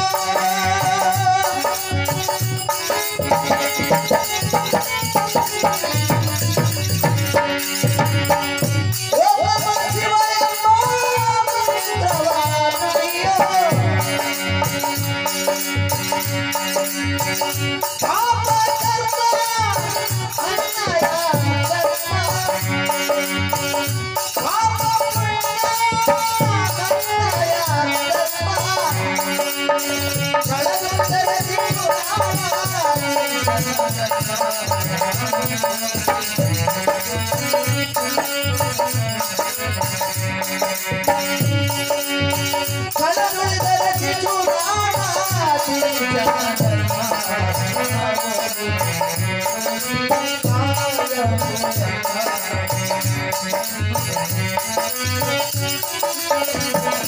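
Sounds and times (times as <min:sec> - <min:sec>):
hand cymbals keeping beat: 0:00.0 - 0:57.0
harmonium held notes: 0:00.0 - 0:57.0
men singing devotional song: 0:00.0 - 0:57.0.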